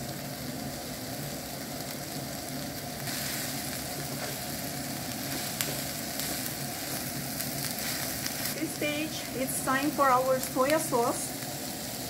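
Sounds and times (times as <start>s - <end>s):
low steady hum: 0.0s - 12.0s
vegetables sizzling in oil: 0.0s - 12.0s.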